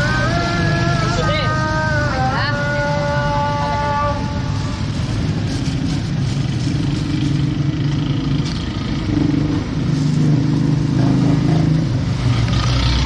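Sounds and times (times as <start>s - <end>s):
street noise: 0.0s - 13.0s
vehicle engine running: 0.0s - 13.0s.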